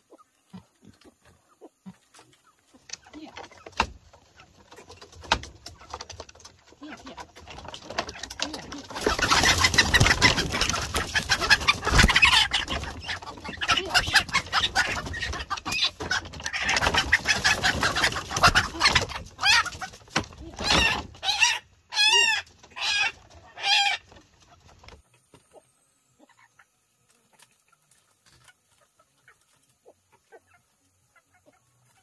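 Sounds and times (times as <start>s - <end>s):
chickens clucking and squawking: 0.0s - 32.0s.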